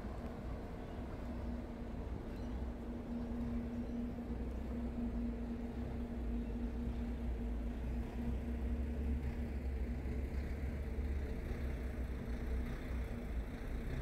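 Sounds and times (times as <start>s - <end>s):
faint steady hum: 0.0s - 14.0s
traffic engine rumble: 0.0s - 14.0s.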